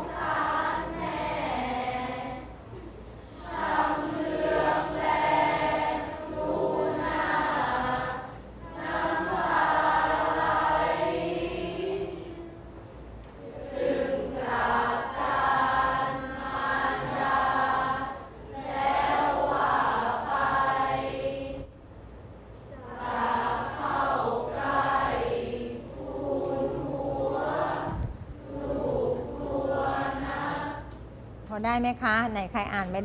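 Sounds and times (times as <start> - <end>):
students chanting verse in unison: 0.0 - 2.6, 3.3 - 12.6, 13.4 - 21.8, 22.8 - 31.0.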